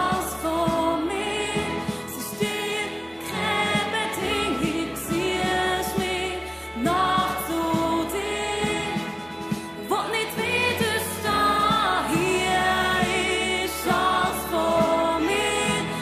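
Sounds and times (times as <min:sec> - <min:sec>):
person singing worship song: 0:00.0 - 0:16.0.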